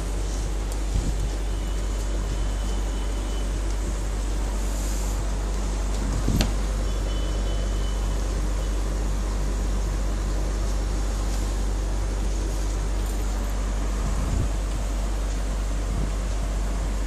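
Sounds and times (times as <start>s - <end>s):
constant hiss: 0.0s - 17.0s.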